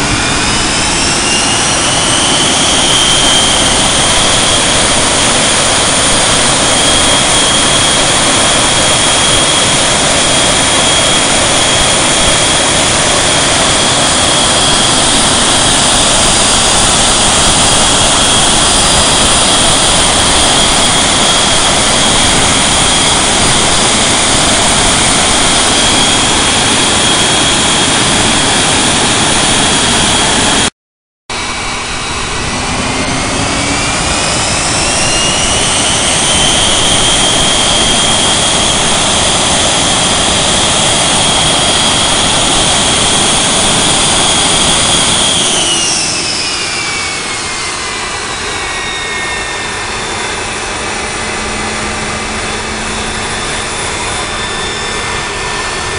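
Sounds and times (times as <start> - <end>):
jet engine rushing and whining: 0.0 - 55.9.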